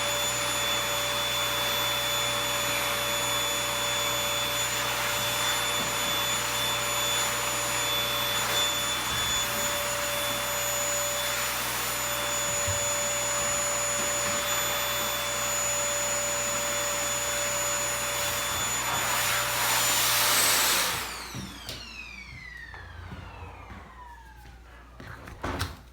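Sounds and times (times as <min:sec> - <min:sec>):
vacuum motor spinning down: 0:00.0 - 0:24.6
vacuum cleaner running: 0:00.0 - 0:25.9.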